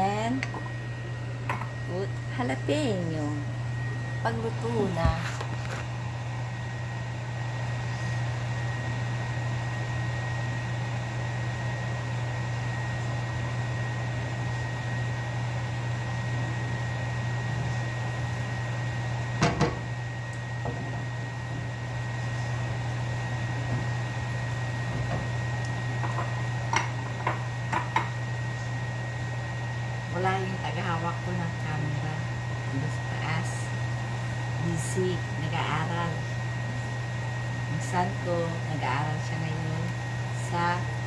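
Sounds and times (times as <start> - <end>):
low mechanical hum with whine: 0.0 - 41.0.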